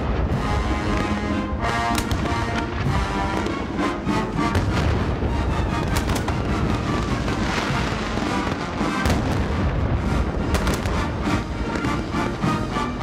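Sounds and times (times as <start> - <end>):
fireworks bursting: 0.0 - 13.0
military bands playing: 0.0 - 13.0.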